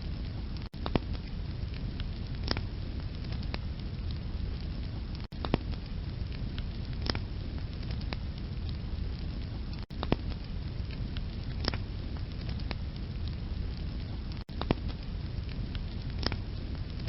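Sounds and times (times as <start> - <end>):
flames rushing in fireplace: 0.0 - 17.0
logs crackling and popping: 0.0 - 17.0.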